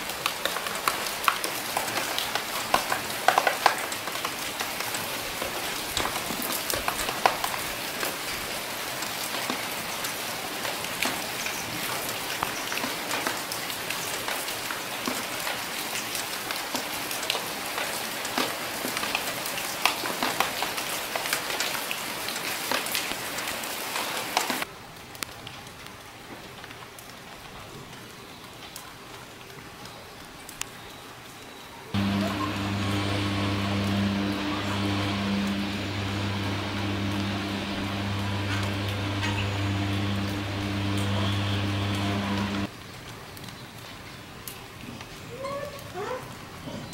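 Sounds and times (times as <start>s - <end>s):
raindrops dripping and tapping: 0.0s - 30.9s, 32.0s - 46.6s
steady rain: 0.0s - 46.9s.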